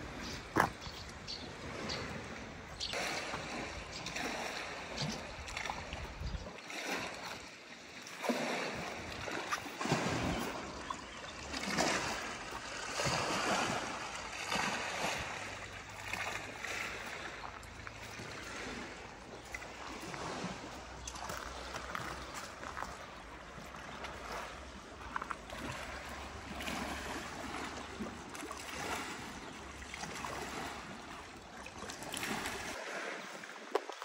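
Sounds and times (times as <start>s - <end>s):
waves lapping against stone wall: 0.0s - 34.0s.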